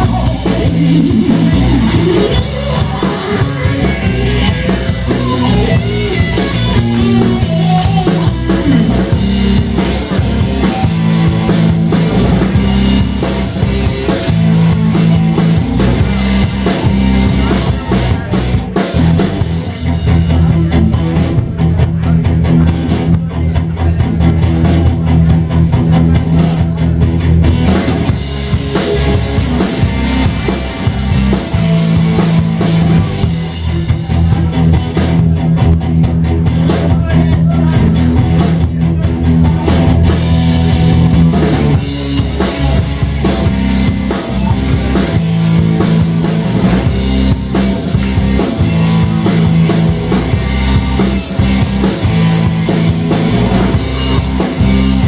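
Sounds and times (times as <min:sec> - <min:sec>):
drum kit with cymbals: 0:00.0 - 0:55.0
electric bass: 0:00.0 - 0:55.0
electric guitar: 0:00.0 - 0:55.0.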